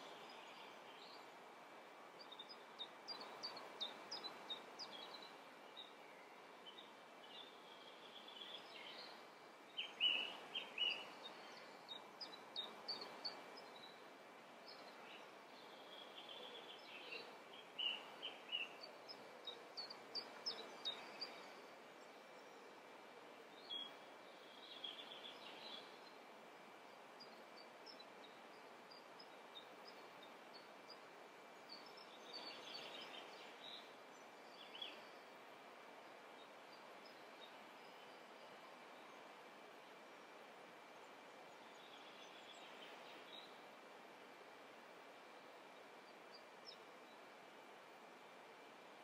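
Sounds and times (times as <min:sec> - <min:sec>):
faint birds chirping: 0:00.0 - 0:49.0
low steady hiss: 0:00.0 - 0:49.0.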